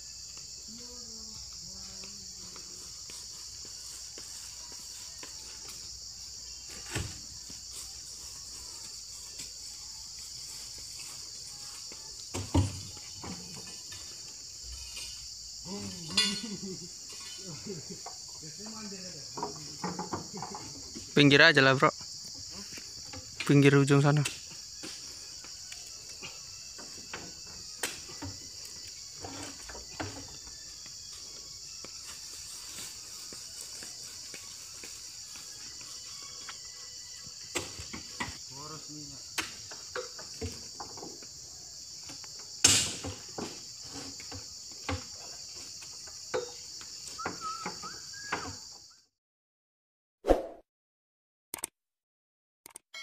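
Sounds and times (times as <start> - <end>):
insects droning: 0.0 - 49.0.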